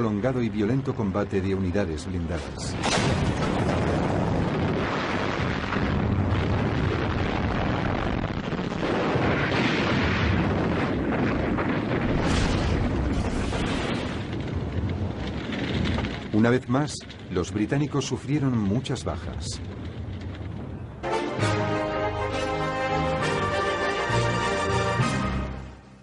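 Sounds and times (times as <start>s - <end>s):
dull explosions: 1.7s - 25.6s.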